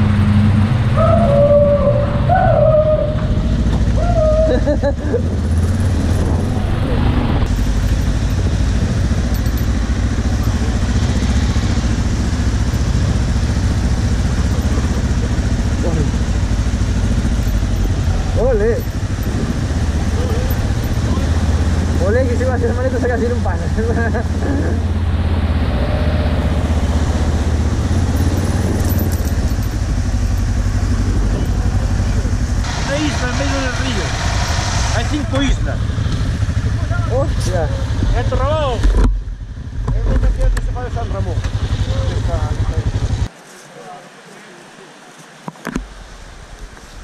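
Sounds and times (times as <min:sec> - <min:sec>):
motorcycle engine running: 0:00.0 - 0:34.4, 0:35.0 - 0:43.3.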